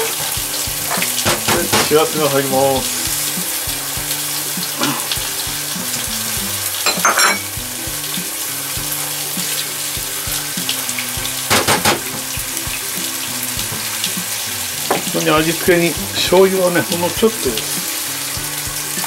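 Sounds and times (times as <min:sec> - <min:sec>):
food sizzling in a pan: 0:00.0 - 0:19.0
quiet background music: 0:00.0 - 0:19.0.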